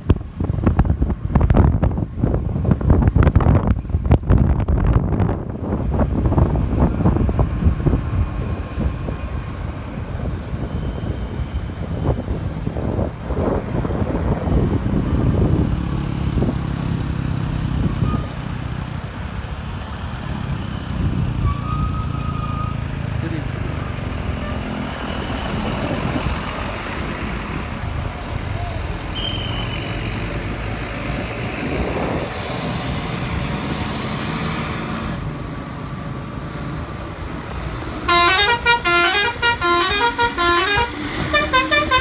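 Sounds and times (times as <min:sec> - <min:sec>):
large vehicle engine humming: 0:00.0 - 0:42.0
roadside traffic: 0:00.0 - 0:42.0.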